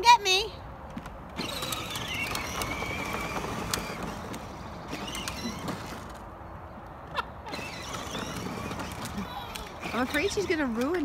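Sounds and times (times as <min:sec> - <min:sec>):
plastic wheels rumbling on asphalt: 0:00.9 - 0:11.0.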